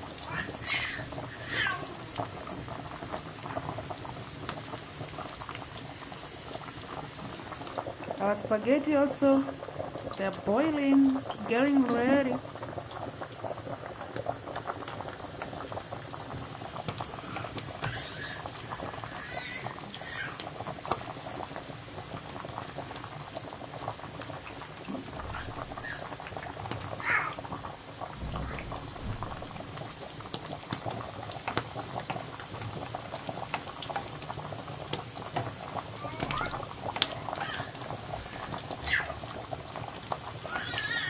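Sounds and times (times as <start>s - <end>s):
food sizzling in frying pan: 0.0s - 41.0s
pot of water boiling: 0.0s - 41.0s.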